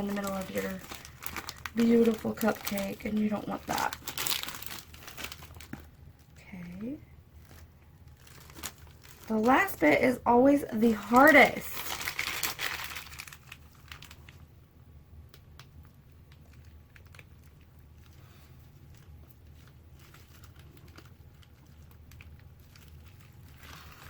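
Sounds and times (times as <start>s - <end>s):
small crackles: 0.0s - 10.0s, 10.7s - 14.6s, 15.2s - 24.0s
plastic bag crinkling: 0.0s - 14.5s, 15.3s - 24.0s
low steady hum: 0.0s - 24.0s.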